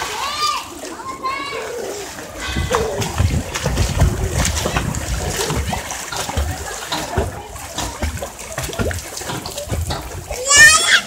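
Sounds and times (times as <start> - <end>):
hands splashing pool water: 0.0 - 11.0.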